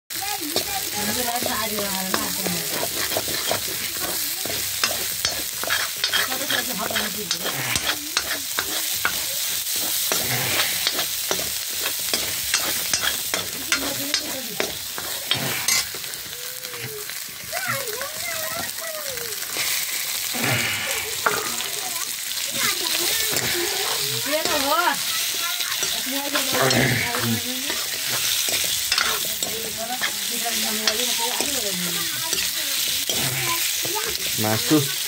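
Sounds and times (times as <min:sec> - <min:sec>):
paste sizzling in hot oil: 0:00.1 - 0:35.0
metal ladle scraping wok: 0:00.6 - 0:17.5, 0:19.4 - 0:35.0.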